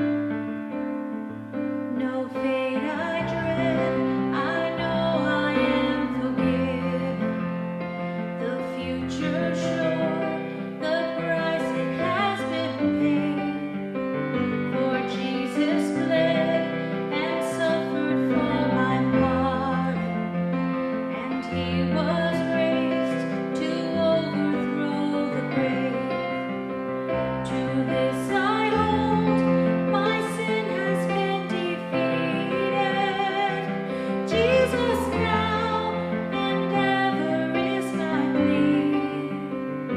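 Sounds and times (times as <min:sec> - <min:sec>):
woman singing slow song: 0:01.9 - 0:13.9, 0:14.5 - 0:20.3, 0:21.1 - 0:39.9.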